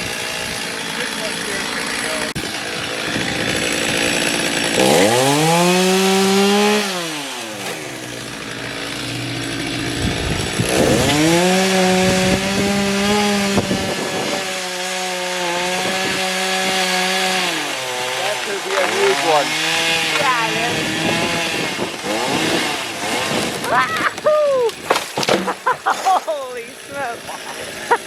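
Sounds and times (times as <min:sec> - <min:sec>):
chainsaw revving and idling: 0:00.0 - 0:24.2, 0:24.8 - 0:28.0.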